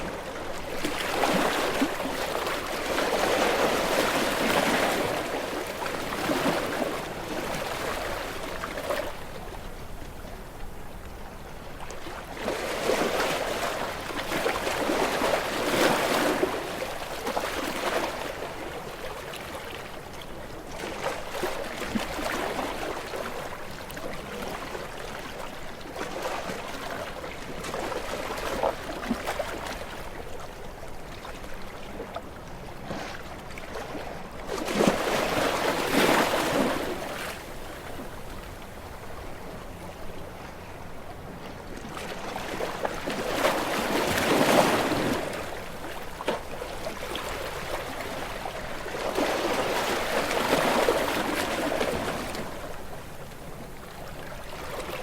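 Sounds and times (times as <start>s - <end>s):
small waves washing onto shore: 0.0s - 55.0s.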